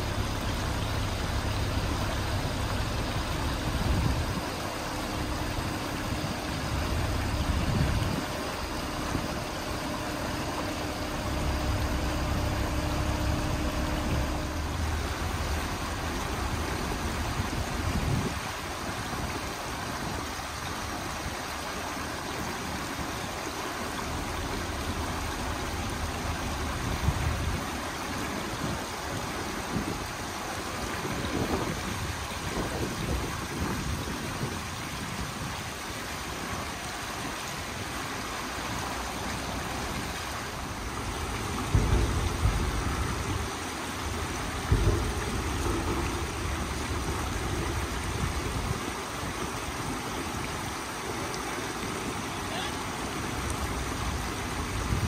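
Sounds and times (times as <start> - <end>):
steady hum: 0.0 - 33.6, 36.5 - 55.0
crane diesel engine rumbling: 0.0 - 55.0
creek rushing over rocks: 0.0 - 55.0.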